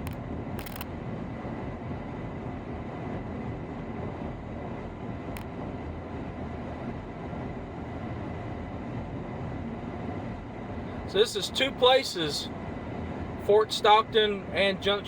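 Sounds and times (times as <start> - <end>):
road and engine noise: 0.0 - 15.0.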